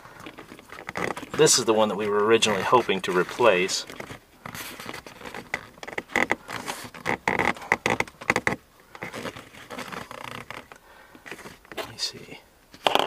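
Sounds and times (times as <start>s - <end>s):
plastic clicks and scrapes: 0.1s - 12.1s, 12.7s - 13.0s.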